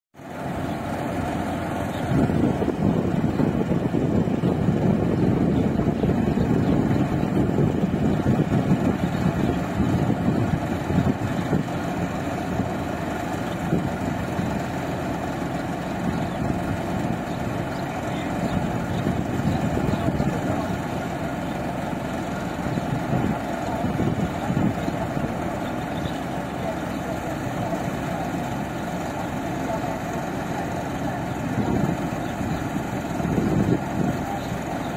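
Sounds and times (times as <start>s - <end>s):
combine harvester running: 0.2s - 34.9s.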